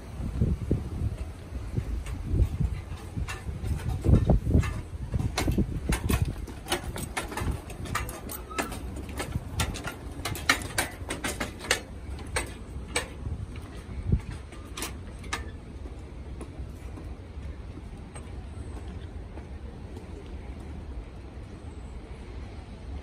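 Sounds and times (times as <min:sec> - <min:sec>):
steady low rumble: 0:00.0 - 0:23.0
footsteps on metal stairs: 0:00.4 - 0:21.0.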